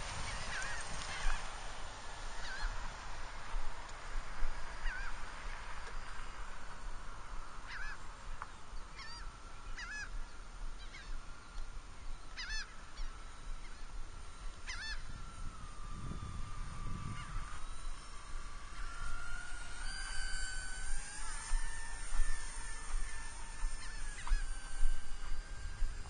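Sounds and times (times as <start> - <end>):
distant electric motor whine: 0.0 - 26.0.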